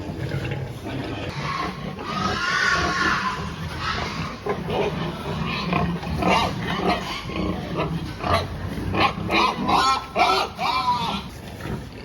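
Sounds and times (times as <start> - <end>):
pigs grunting and squealing: 0.0 - 12.0.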